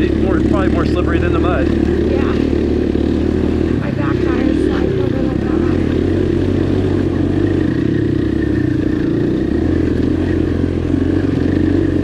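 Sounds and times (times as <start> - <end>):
dirt bike engine idling low: 0.0 - 12.0.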